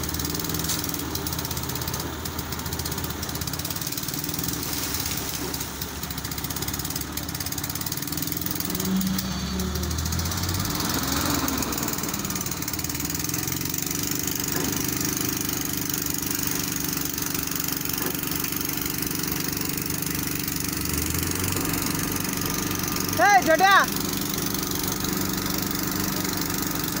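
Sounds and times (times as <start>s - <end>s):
crane diesel engine running: 0.0s - 27.0s.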